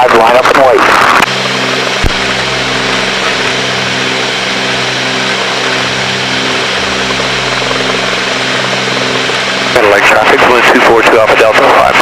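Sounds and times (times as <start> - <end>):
twin propeller engines droning: 1.2 - 12.0.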